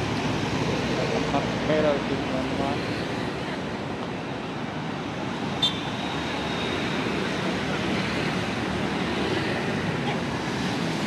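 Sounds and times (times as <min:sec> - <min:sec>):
city road traffic: 0:00.0 - 0:11.0.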